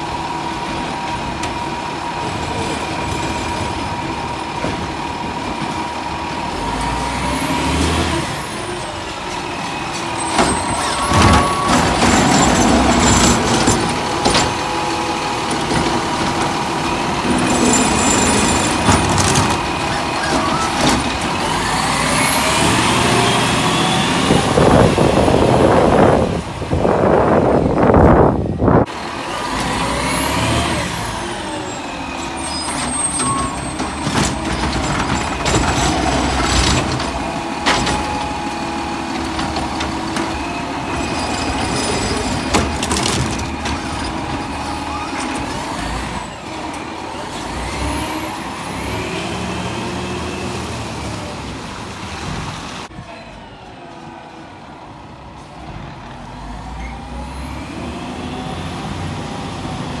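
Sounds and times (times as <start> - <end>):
garbage truck engine revving: 0.0 - 52.9, 55.2 - 60.0.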